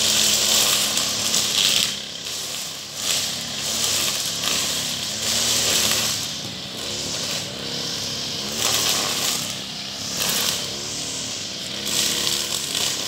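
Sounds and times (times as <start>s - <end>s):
brush cutter engine running: 0.0s - 13.0s
cutting line hissing through grass: 0.0s - 13.0s.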